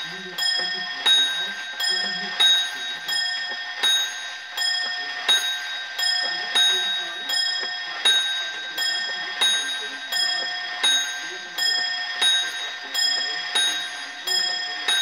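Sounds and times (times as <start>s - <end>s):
small clock bell ringing: 0.0s - 15.0s.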